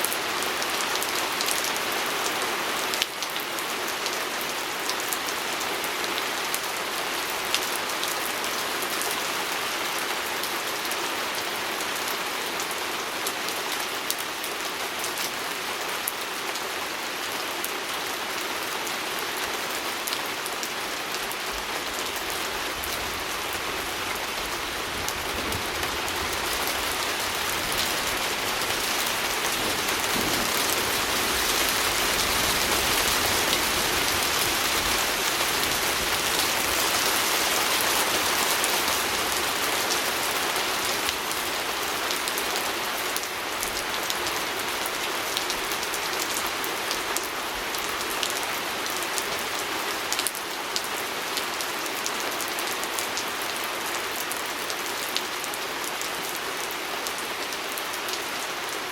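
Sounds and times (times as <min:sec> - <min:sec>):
rain on a window pane: 0:00.0 - 0:58.9.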